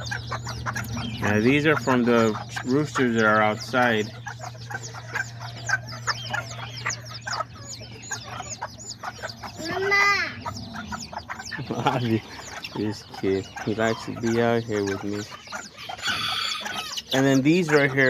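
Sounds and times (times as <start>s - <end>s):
chicks peeping: 0.0s - 18.0s
loud drawn-out chick call: 0.0s - 18.0s.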